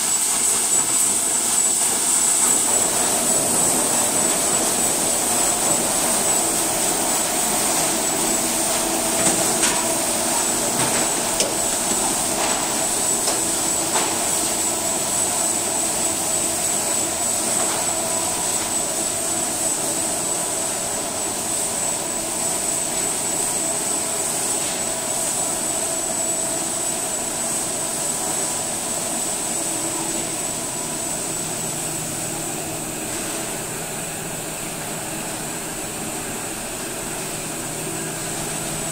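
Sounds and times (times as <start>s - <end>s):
high even whine: 0.0s - 38.9s
machinery hum: 0.0s - 38.9s.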